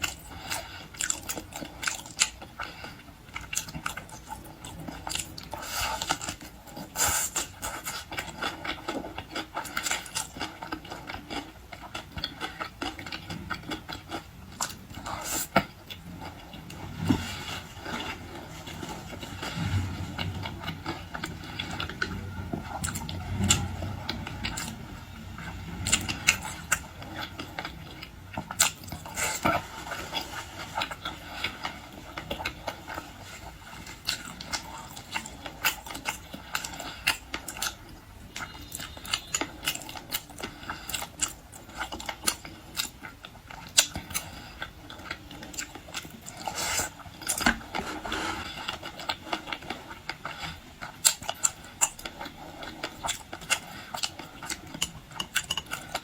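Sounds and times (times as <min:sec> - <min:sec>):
person chewing and biting: 0:00.0 - 0:56.0.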